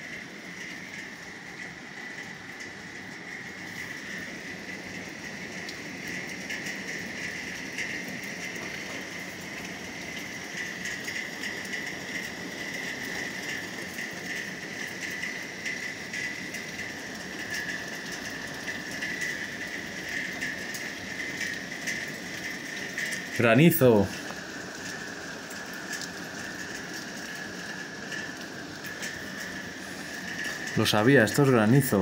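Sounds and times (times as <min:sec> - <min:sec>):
heavy rain pouring on slate roofs: 0:00.0 - 0:32.0
raindrops tapping close by: 0:00.0 - 0:32.0.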